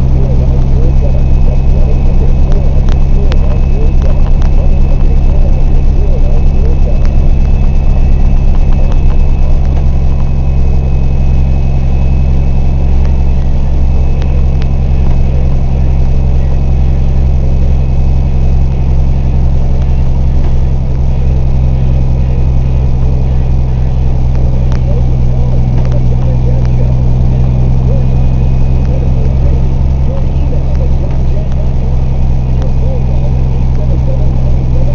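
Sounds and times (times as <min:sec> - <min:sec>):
vehicle engine and road drone: 0:00.0 - 0:34.9.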